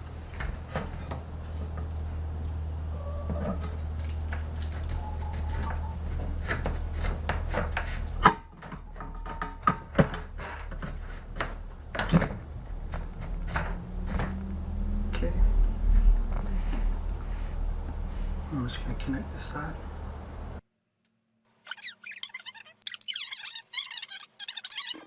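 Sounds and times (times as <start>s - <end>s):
wire knocking and scraping: 0.0s - 20.6s.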